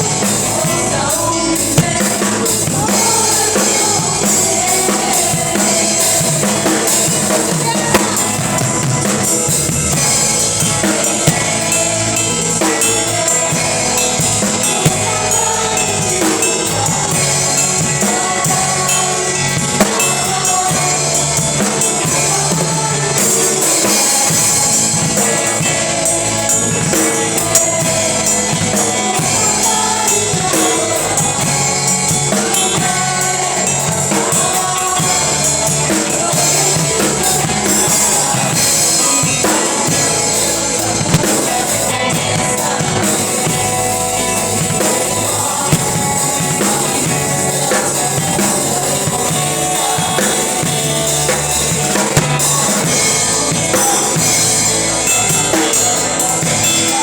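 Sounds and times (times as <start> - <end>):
drum kit beat: 0.0 - 57.0
live band music: 0.0 - 57.0.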